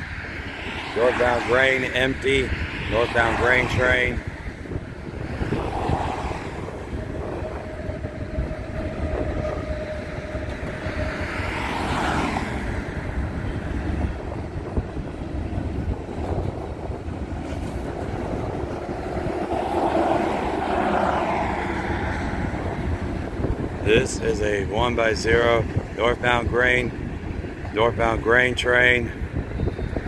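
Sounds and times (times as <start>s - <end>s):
pickup truck passing: 0.0s - 27.8s
freight train wheels rumbling: 0.0s - 30.0s.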